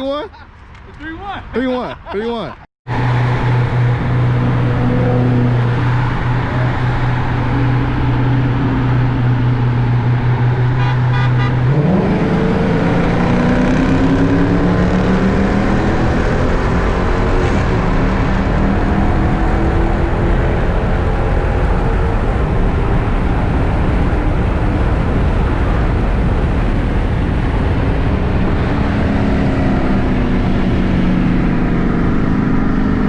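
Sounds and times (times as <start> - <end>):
car engine and exhaust drone: 2.9 - 33.0.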